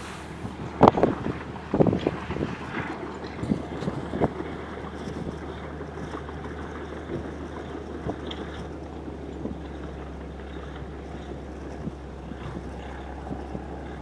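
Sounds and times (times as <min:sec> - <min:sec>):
low machinery drone: 0:00.0 - 0:14.0
wind buffeting microphone: 0:00.0 - 0:14.0.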